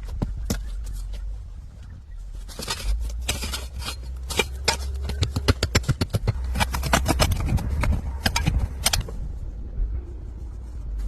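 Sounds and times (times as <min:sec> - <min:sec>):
footsteps on rocky ground: 0:00.0 - 0:09.3
low rumble: 0:00.0 - 0:11.0.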